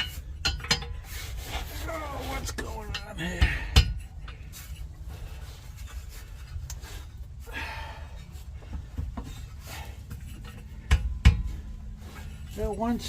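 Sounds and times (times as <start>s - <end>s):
rubbing and scraping: 0.0s - 7.5s, 8.2s - 13.0s.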